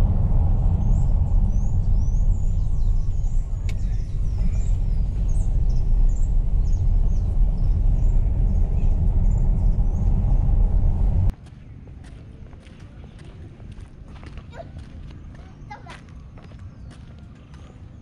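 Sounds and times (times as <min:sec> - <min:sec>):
car driving rumble: 0:00.0 - 0:16.2.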